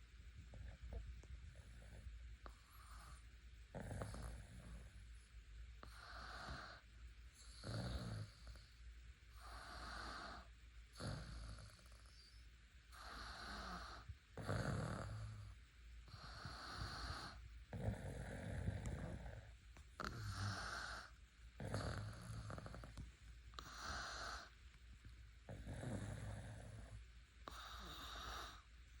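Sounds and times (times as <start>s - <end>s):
rhythmic snoring: 0.5s - 24.6s, 25.4s - 28.7s.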